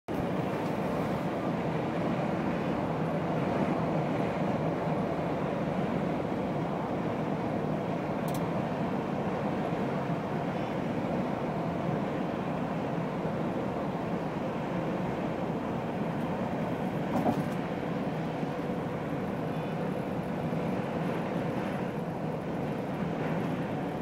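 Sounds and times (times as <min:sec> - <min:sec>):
road and tyre noise: 0:00.1 - 0:24.0.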